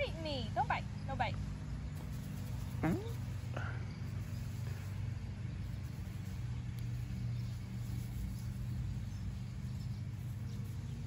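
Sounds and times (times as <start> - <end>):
lawnmower engine running: 0.0 - 11.0.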